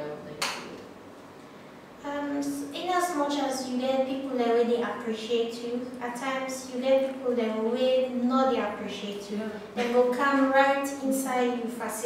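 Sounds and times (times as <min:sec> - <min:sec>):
woman speaking: 0:02.0 - 0:12.0.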